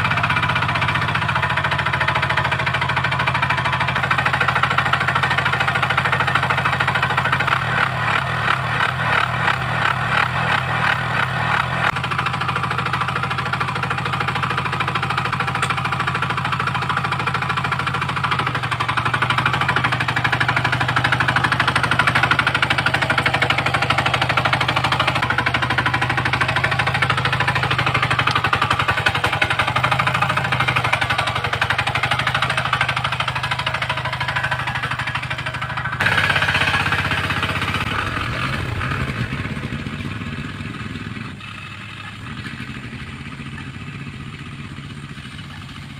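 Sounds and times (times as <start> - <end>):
tractor engine with tiller pounding: 0.0 - 45.9.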